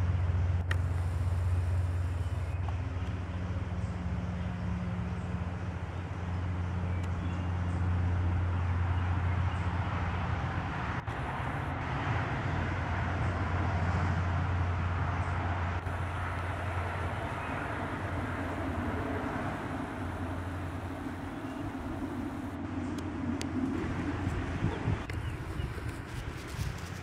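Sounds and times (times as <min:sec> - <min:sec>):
low mechanical hum: 0:00.0 - 0:27.0
outdoor background noise: 0:00.0 - 0:27.0.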